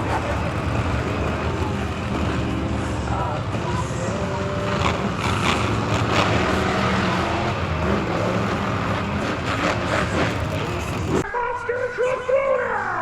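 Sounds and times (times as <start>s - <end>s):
monster truck engines running: 0.0s - 11.2s.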